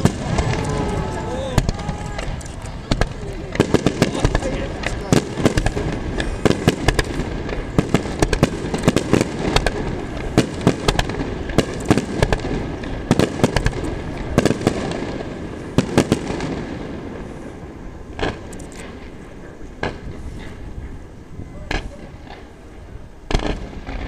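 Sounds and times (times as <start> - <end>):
firework crackling: 0.0 - 24.0
fireworks bursting: 0.0 - 24.0.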